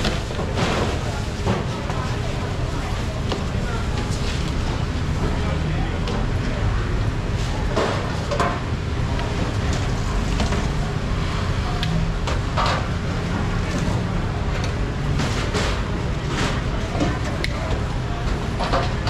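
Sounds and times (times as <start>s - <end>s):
faint voices: 0.0s - 19.0s.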